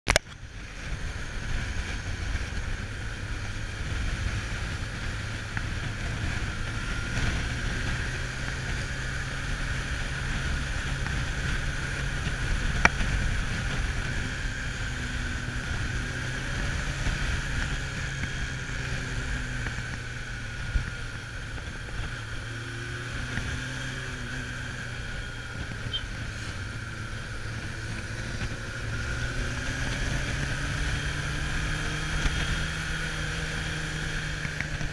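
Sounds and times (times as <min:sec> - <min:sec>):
motorcycle engine running: 0:00.1 - 0:34.9
wind rushing over microphone: 0:00.1 - 0:34.9.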